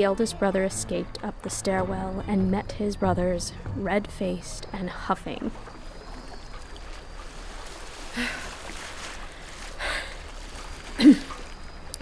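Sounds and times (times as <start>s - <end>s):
sea ambience: 0.0s - 12.0s.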